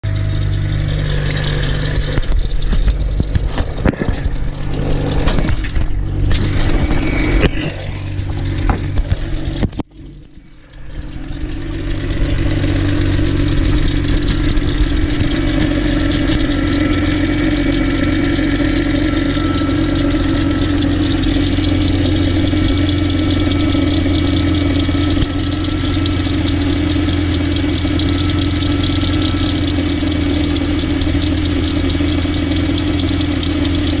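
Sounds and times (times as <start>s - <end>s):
car engine running unevenly: 0.0s - 34.0s.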